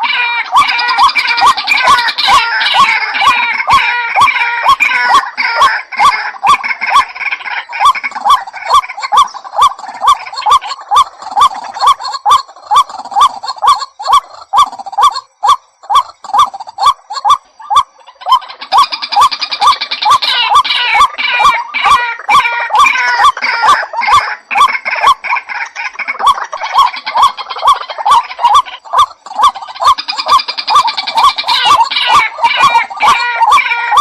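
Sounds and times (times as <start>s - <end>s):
high bird chattering: 0.0s - 34.0s.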